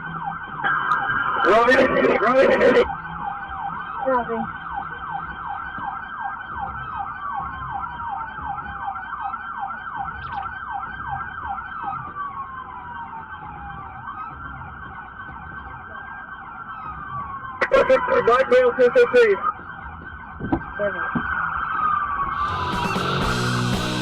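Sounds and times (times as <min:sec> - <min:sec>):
police car siren: 0:00.0 - 0:24.0.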